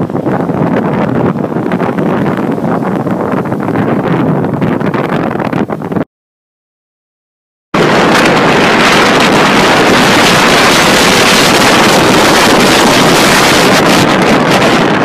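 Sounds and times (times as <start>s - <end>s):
wind and road noise: 0.0s - 6.1s, 7.8s - 15.0s
wind buffeting microphone: 0.0s - 6.1s, 7.8s - 15.0s.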